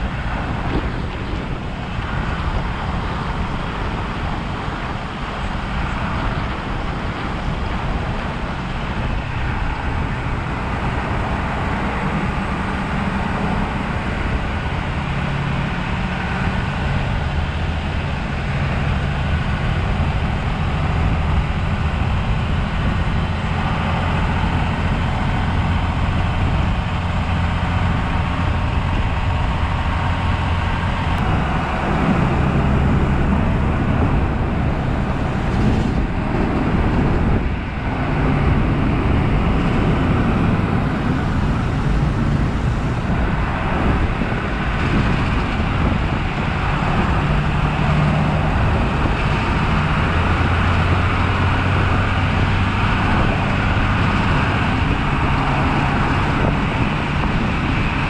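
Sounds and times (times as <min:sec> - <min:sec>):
truck engine hum: 0:00.0 - 0:58.0
wind noise: 0:00.0 - 0:58.0.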